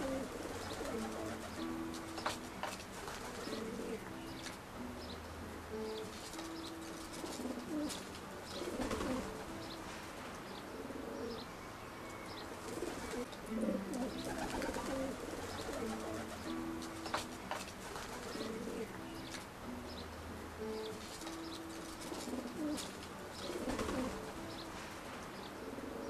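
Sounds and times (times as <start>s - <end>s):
pigeons cooing: 0.0s - 10.0s, 10.6s - 11.5s, 12.4s - 24.9s, 25.5s - 26.0s
small birds chirping: 0.0s - 26.0s.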